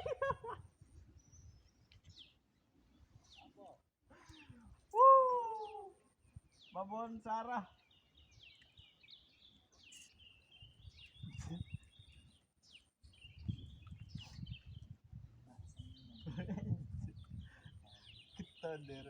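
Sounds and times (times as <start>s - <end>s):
small birds chirping and trilling: 1.0s - 19.0s.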